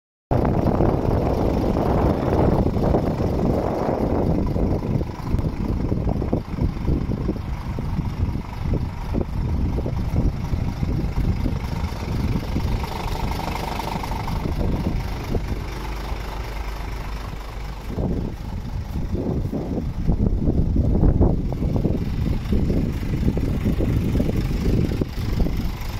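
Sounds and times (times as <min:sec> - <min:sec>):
truck diesel engine idling: 0:00.3 - 0:25.9.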